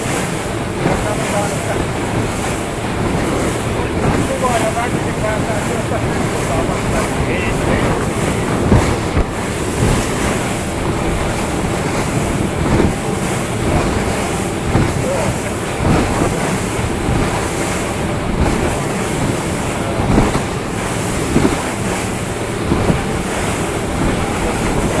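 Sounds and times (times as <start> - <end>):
boat motor rumble: 0.0 - 25.0
water noise: 0.0 - 25.0.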